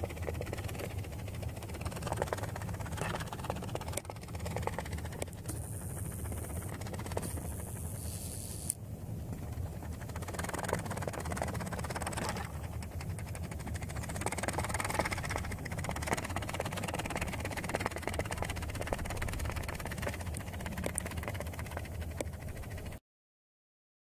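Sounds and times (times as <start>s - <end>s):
pop-pop boat engine clicking: 0.0s - 23.0s.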